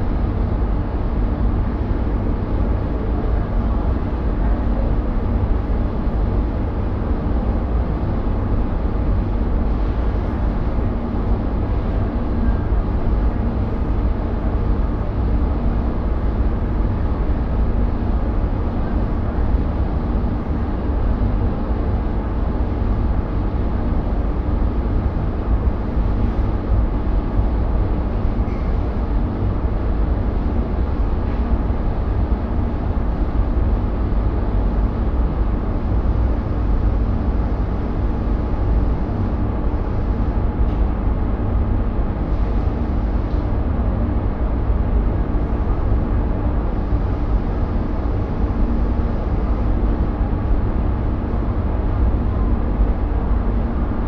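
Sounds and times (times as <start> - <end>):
spray booth low rumble: 0.0 - 54.0.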